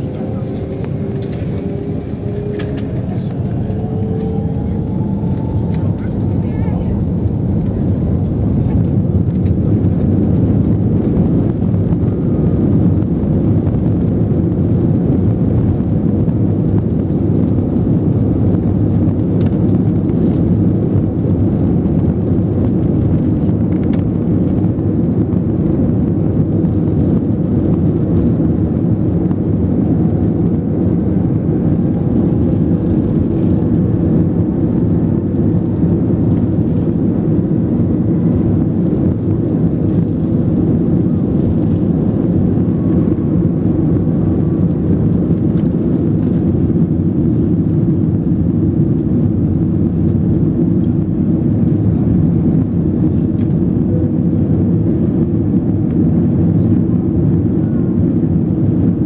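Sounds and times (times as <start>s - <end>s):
airplane engines rumbling: 0.0s - 59.0s.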